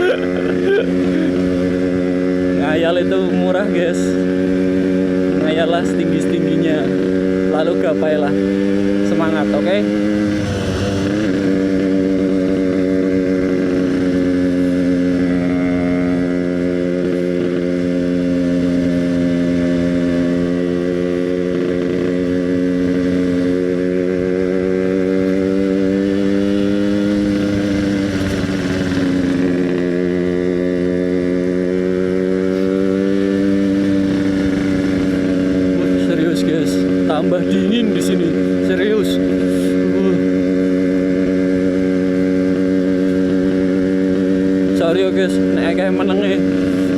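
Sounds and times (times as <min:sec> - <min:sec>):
two-stroke motorcycle cruising: 0:00.0 - 0:46.9.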